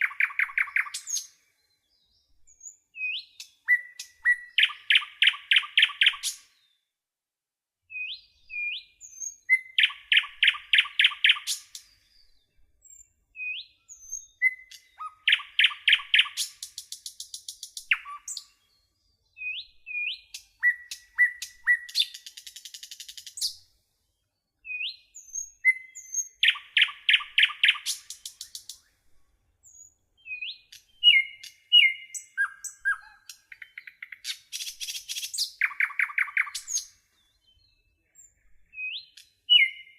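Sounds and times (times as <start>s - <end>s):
songbird singing: 0.0s - 6.9s, 7.9s - 39.9s.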